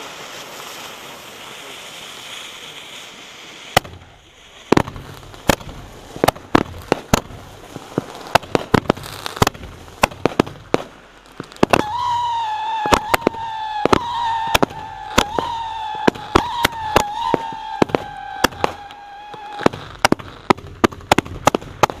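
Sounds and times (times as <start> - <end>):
fireworks hiss: 0.0 - 22.0
fireworks sharp bangs: 0.0 - 22.0.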